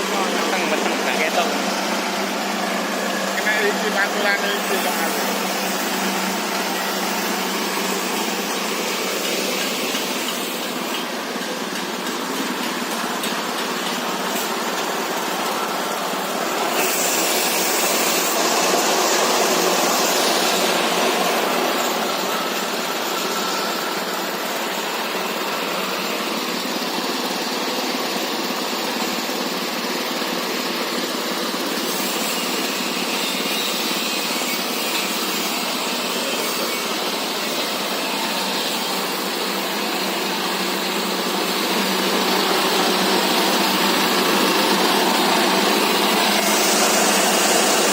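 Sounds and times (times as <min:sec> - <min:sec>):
pellet mill mechanical din: 0:00.0 - 0:47.9.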